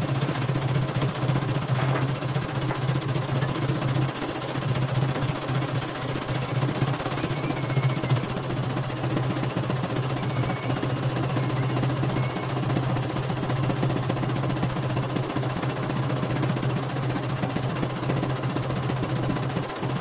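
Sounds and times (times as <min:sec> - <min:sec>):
embroidery machine clattering: 0:00.0 - 0:20.0.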